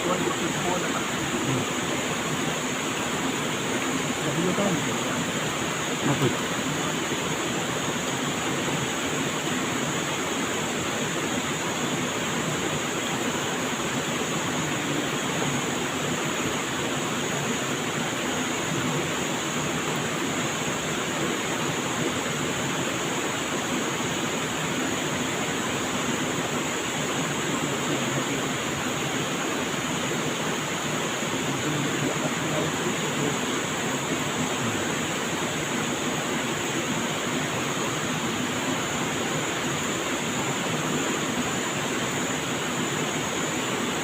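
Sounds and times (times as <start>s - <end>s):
water rushing: 0.0s - 44.0s.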